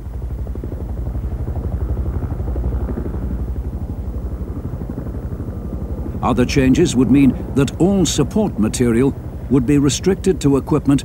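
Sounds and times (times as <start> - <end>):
helicopter rotors thudding: 0.0 - 11.0.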